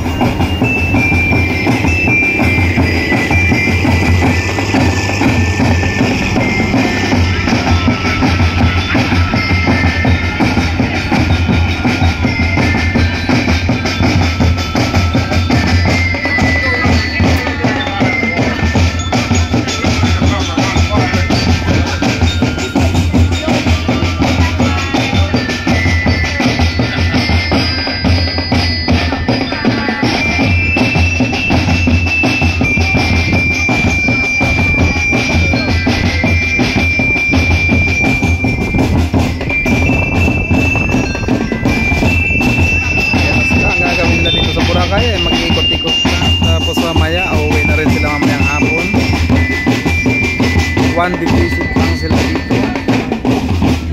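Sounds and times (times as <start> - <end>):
drum band playing: 0.0 - 53.9.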